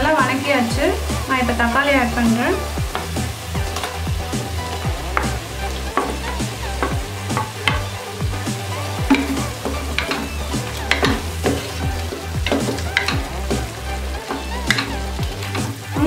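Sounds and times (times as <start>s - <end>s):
food sizzling: 0.0s - 16.0s
spatula scraping a pan: 2.1s - 16.0s.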